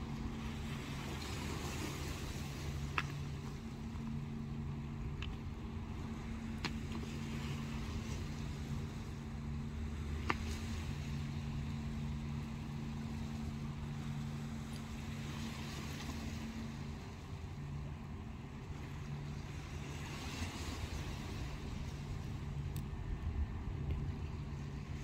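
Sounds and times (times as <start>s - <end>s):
waves washing over shingle: 0.0s - 25.0s.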